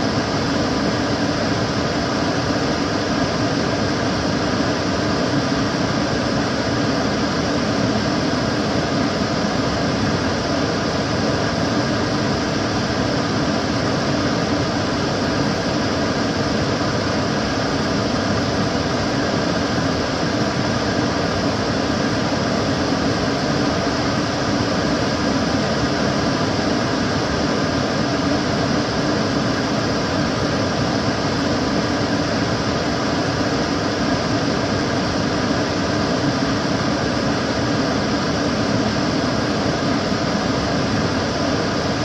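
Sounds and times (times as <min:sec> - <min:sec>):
extractor fan running: 0:00.0 - 0:42.0.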